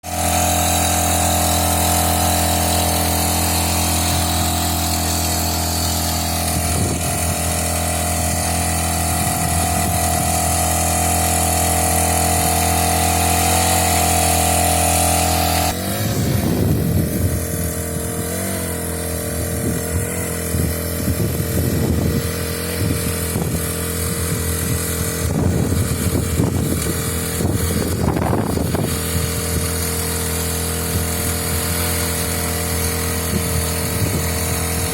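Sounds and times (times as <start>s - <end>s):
small engine revving: 0.0s - 34.9s.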